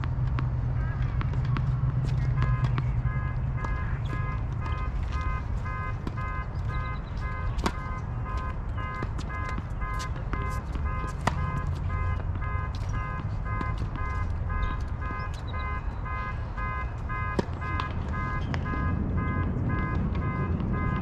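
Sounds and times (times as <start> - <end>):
tennis balls struck by rackets: 0.0 - 21.0
traffic rumble: 0.0 - 21.0
wind: 0.0 - 21.0
car alarm beeping: 0.9 - 21.0.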